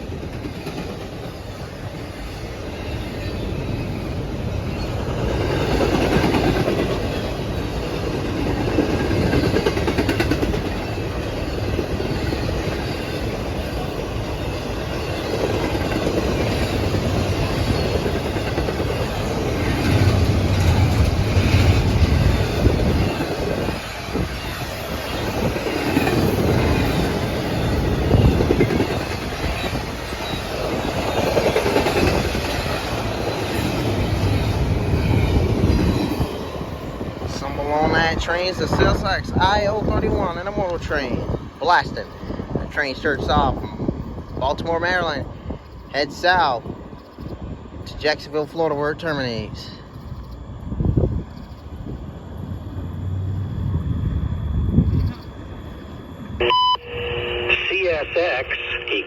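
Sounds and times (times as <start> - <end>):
freight train wheels clattering: 0.0 - 52.6.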